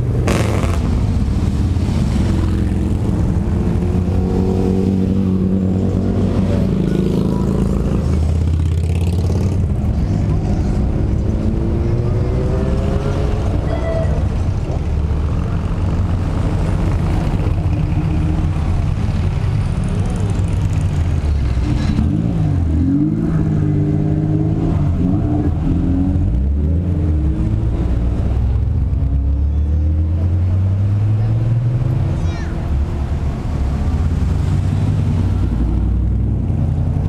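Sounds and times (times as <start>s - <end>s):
car engine revving: 0.0s - 37.0s
cars passing: 0.0s - 37.0s.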